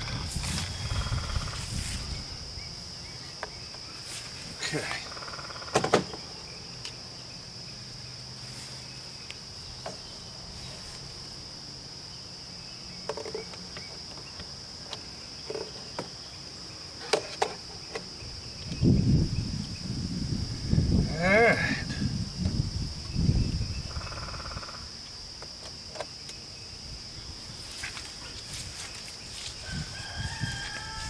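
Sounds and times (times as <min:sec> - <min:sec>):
crickets chorus: 0:00.0 - 0:31.0.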